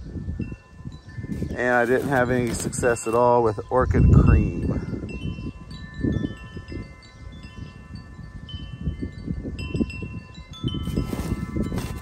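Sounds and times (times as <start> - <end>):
wind chimes ringing: 0.0 - 12.0.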